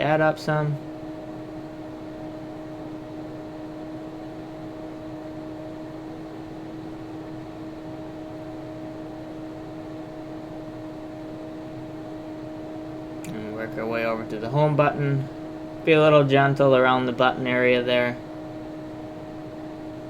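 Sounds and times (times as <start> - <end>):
steady two-note hum: 0.0 - 20.0.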